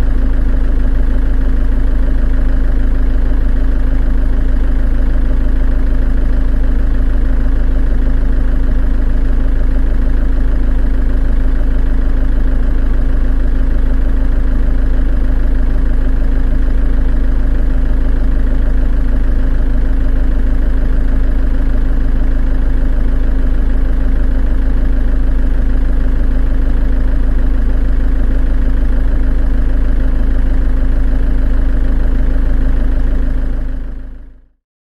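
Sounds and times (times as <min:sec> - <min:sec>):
diesel engine running: 0:00.0 - 0:34.1.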